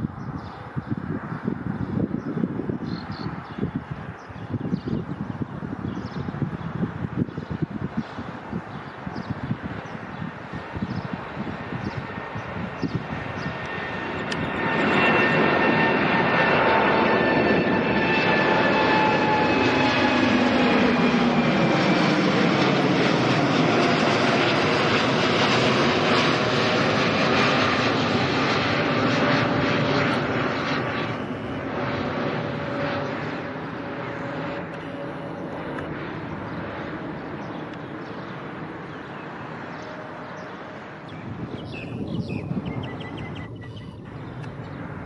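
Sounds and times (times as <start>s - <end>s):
jet engines roaring overhead: 0.0s - 45.0s.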